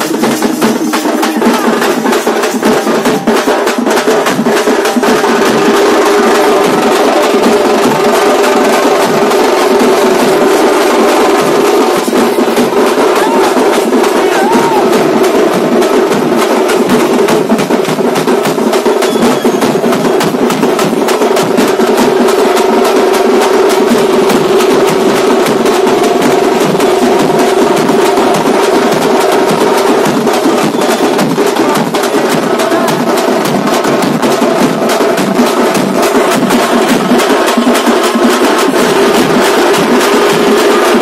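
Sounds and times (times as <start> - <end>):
drum band playing fast rhythm: 0.0 - 41.0.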